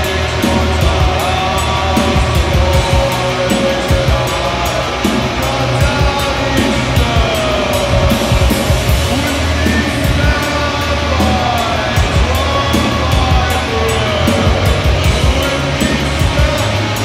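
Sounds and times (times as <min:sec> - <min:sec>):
heavy bass music: 0:00.0 - 0:17.0.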